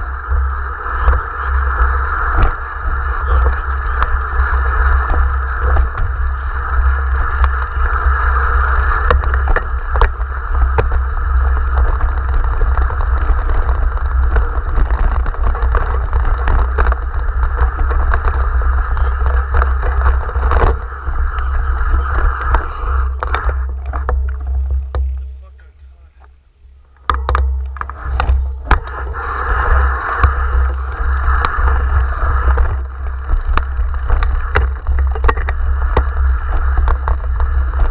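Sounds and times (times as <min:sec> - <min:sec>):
bike rattling over stones: 0:00.0 - 0:37.9
rushing tyre noise: 0:00.0 - 0:37.9
wind buffeting microphone: 0:00.0 - 0:37.9.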